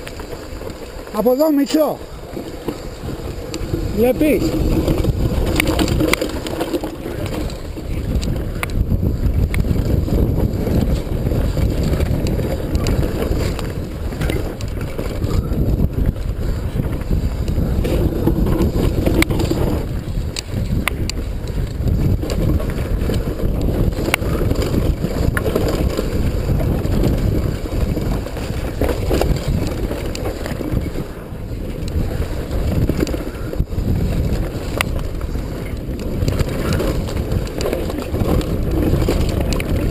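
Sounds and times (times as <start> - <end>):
bike rattling over stones: 0.0 - 39.9
wind buffeting microphone: 0.0 - 39.9.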